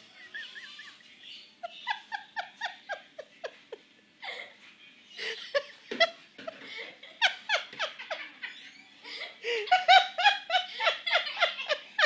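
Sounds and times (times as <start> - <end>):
high-pitched giggling laughter: 0.0 - 4.6, 5.2 - 12.0.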